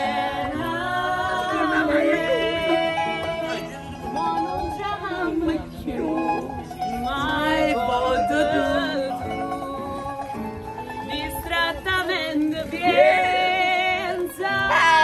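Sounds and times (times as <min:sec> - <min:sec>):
acoustic guitar strumming: 0:00.0 - 0:15.0
mandolin strumming: 0:00.0 - 0:15.0
voices singing along: 0:00.0 - 0:15.0
woman singing: 0:00.0 - 0:15.0.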